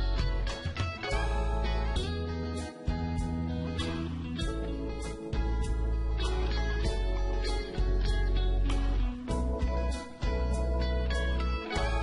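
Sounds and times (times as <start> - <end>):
guitar music over steady beat: 0.0 - 12.0.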